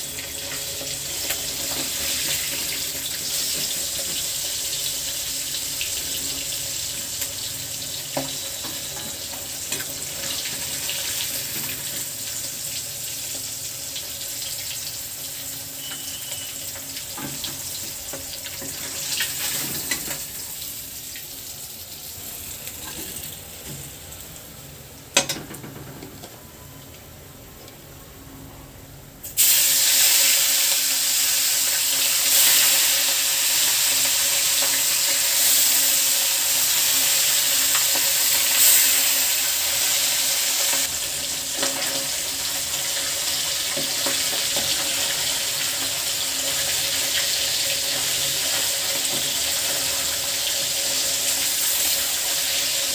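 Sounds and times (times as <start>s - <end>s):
fish sizzling in oil: 0.0s - 25.4s, 29.2s - 52.9s.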